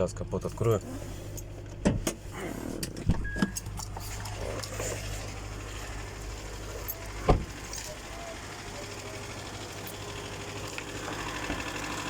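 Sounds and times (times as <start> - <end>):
car engine idling and knocking: 0.0 - 12.0.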